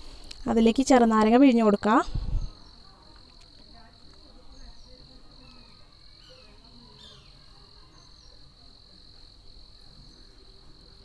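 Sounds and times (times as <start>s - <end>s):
cricket trill: 0.4s - 11.0s.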